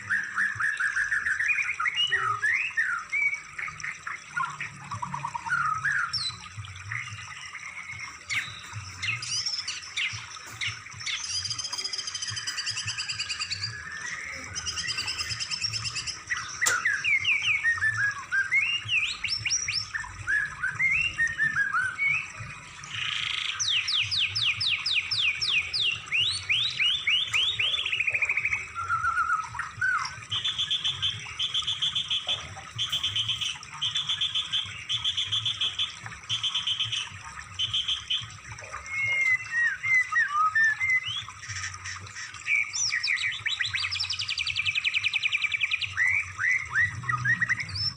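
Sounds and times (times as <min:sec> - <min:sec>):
songbird chirps and trills: 0:00.0 - 0:47.9.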